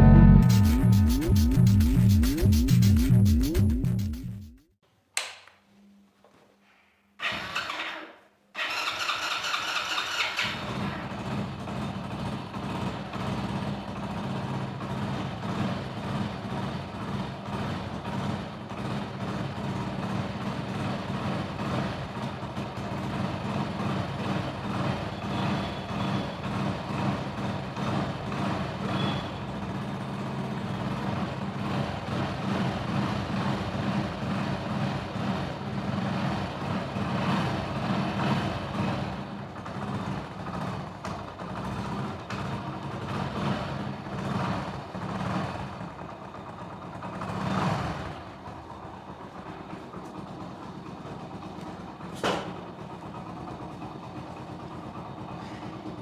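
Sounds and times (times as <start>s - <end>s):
motorcycle engine idling: 9.2s - 56.0s.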